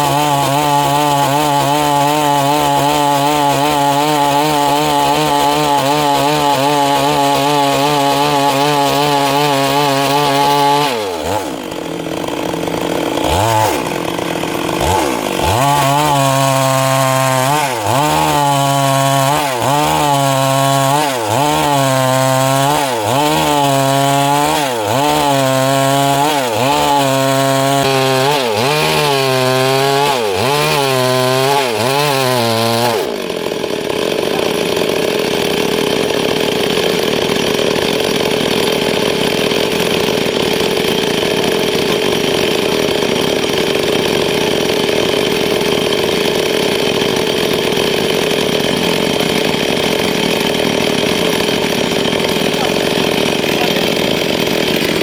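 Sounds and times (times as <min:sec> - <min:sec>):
chainsaw running at high revs: 0:00.0 - 0:55.0.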